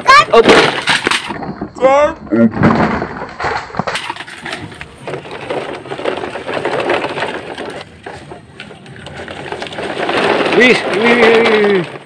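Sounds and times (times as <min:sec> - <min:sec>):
toy cars rattling: 0:00.0 - 0:12.0
toy truck wheels crunching dirt: 0:00.0 - 0:12.0.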